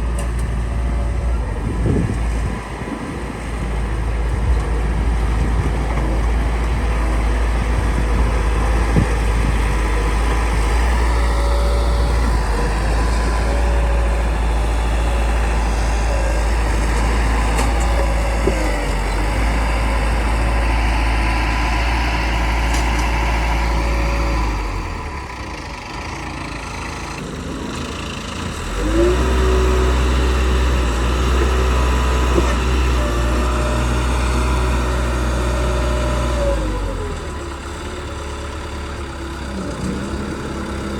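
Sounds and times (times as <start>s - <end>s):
diesel engine droning under load: 0.0s - 40.9s.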